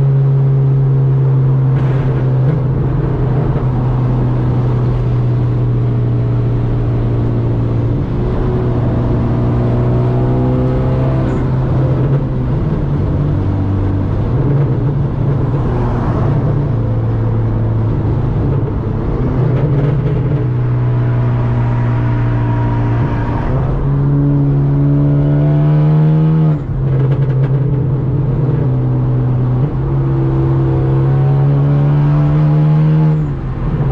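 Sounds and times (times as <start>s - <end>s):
car exhaust accelerating: 0.0s - 33.9s.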